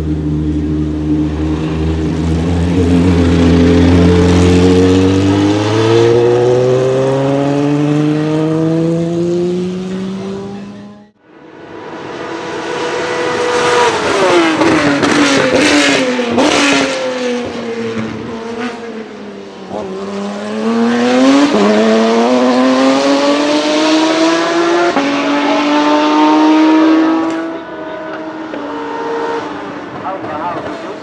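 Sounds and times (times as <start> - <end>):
race car engine: 0.0 - 31.0.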